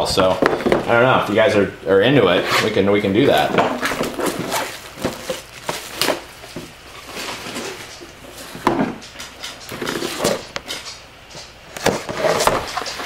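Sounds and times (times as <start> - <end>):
cardboard rustling: 2.2 - 13.0.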